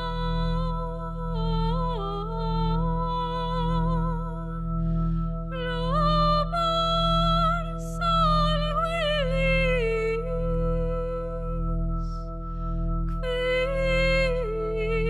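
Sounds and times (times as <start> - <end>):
woman singing with vibrato: 0.0 - 4.6, 5.5 - 12.1, 13.1 - 15.0
held keyboard drone: 0.0 - 15.0.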